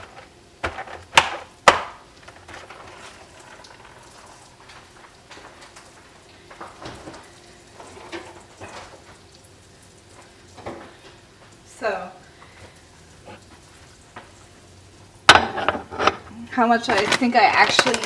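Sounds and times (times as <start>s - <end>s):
hot oil sizzling in a pan: 1.4s - 18.0s.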